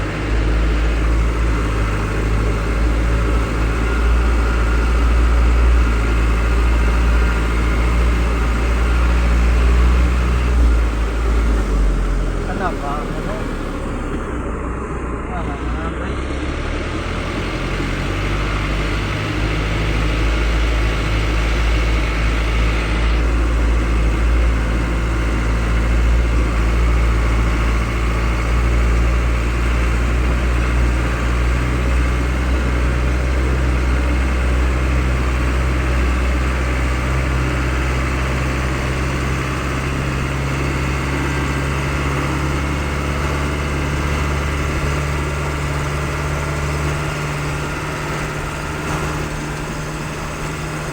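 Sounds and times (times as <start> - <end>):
truck engine droning: 0.0 - 50.9.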